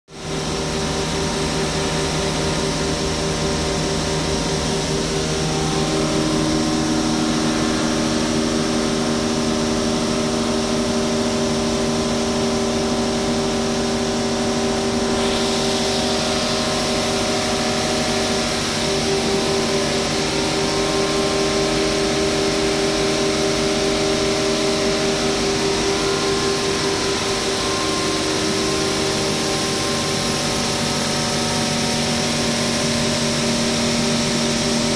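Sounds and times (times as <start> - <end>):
flour mill machinery drone: 0.1 - 34.9.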